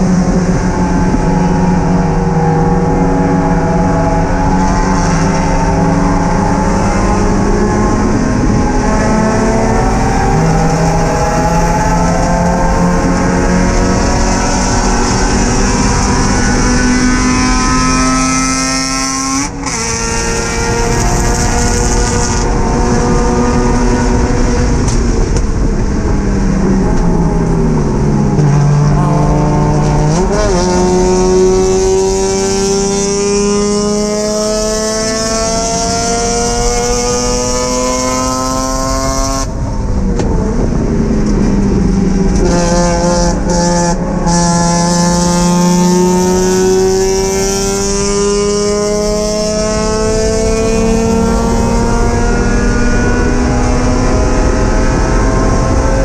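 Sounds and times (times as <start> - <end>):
car engine accelerating: 0.0 - 56.0
wind and road noise: 0.0 - 56.0.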